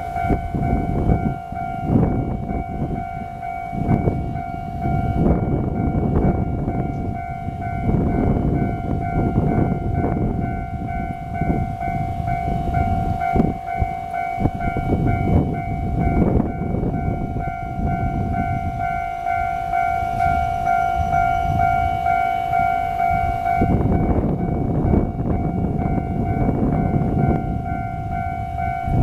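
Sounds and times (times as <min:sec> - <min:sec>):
level crossing bell ringing: 0:00.0 - 0:29.0.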